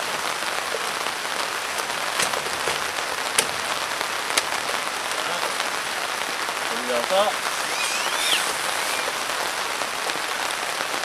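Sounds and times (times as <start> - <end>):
heavy rain on a tarp: 0.0 - 11.0.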